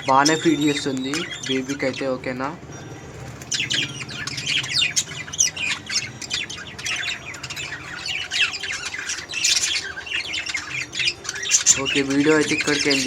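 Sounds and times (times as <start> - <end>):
budgerigars chattering and squawking: 0.0 - 2.6, 3.2 - 13.0.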